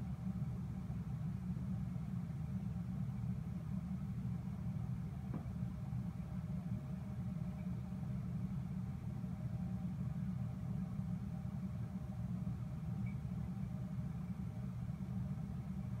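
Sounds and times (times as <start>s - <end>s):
aquarium equipment humming: 0.0s - 16.0s.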